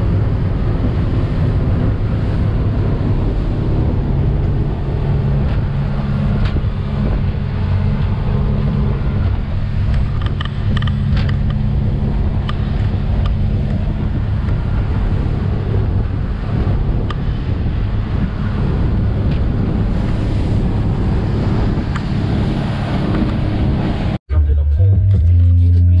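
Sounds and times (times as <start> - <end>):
wind and water rushing: 0.0 - 24.2.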